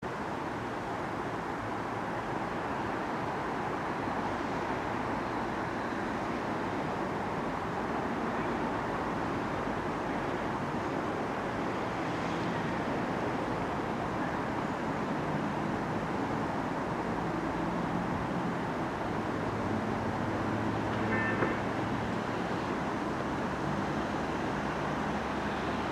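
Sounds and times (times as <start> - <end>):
vehicle noise: 0.0 - 25.9.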